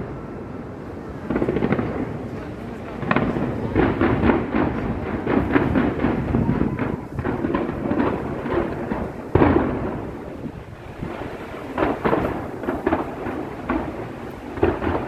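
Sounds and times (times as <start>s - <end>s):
fireworks bangs with rumble: 0.0s - 15.0s.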